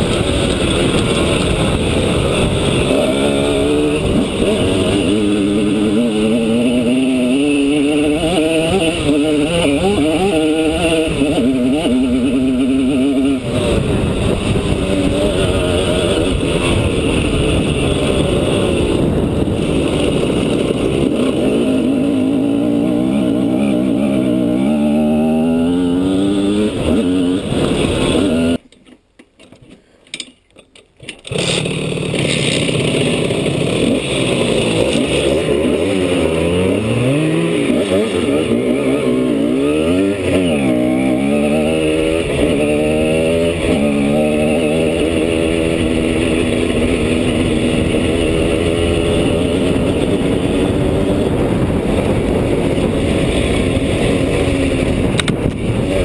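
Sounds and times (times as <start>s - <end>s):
motorcycle two-stroke engine revving: 0.0s - 28.6s, 31.2s - 56.0s.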